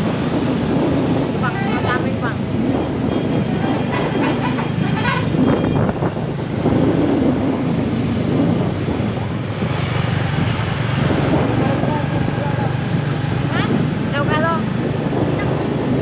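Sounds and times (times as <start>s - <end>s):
diesel bus engine rumbling: 0.0s - 16.0s
street noise: 0.0s - 16.0s.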